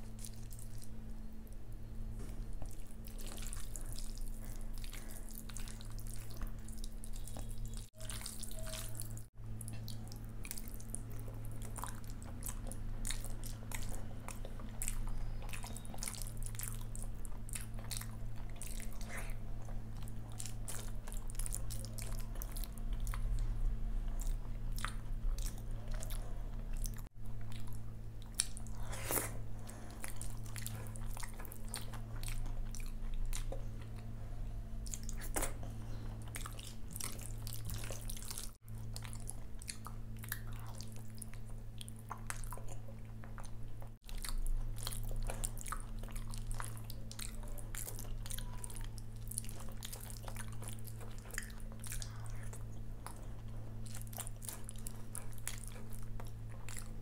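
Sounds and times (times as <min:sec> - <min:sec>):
low steady hum: 0:00.0 - 0:57.0
mouth chewing: 0:00.0 - 0:57.0.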